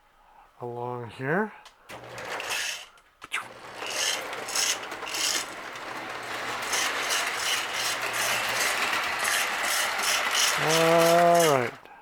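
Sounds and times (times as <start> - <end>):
toy train motor whirring: 1.9 - 11.9.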